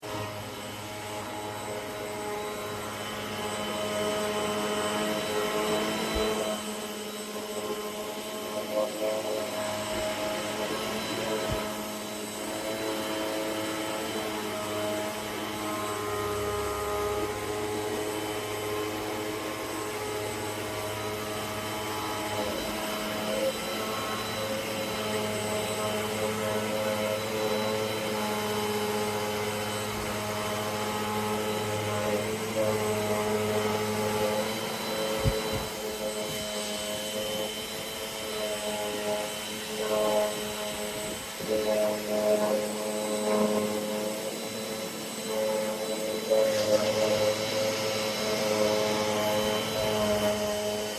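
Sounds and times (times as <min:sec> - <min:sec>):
upright vacuum cleaner running: 0:00.0 - 0:50.9.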